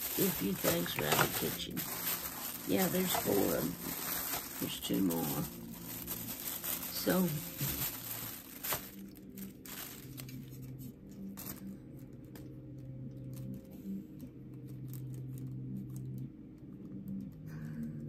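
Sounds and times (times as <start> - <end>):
plastic packaging crinkling: 0.0 - 16.3
low steady hum: 0.0 - 18.0.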